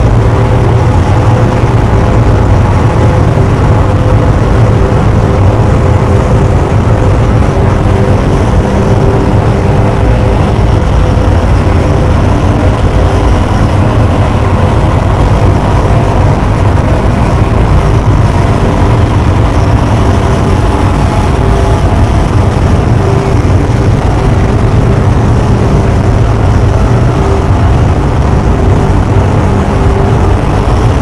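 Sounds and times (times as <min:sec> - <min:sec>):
harsh grinding noise: 0:00.0 - 0:31.0
steady tones: 0:00.0 - 0:31.0.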